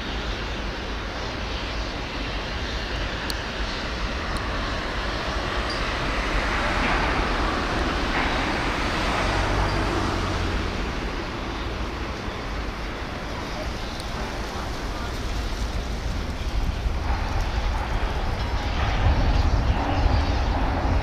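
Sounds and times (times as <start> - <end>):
outdoor background rumble and hiss: 0.0 - 21.0.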